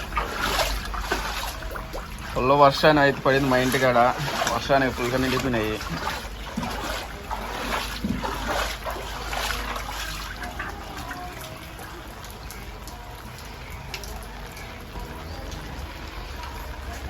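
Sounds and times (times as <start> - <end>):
rainwater trickling and splashing: 0.0 - 17.0.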